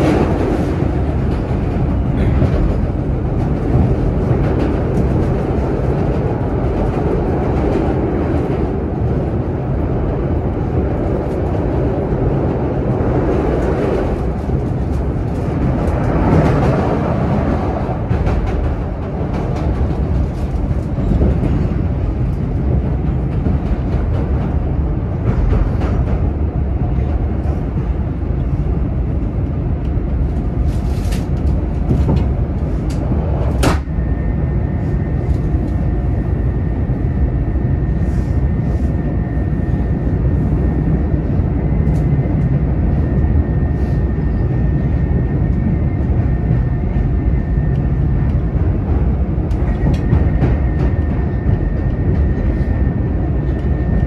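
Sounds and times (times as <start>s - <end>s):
train car rumble and rattle: 0.0s - 54.0s.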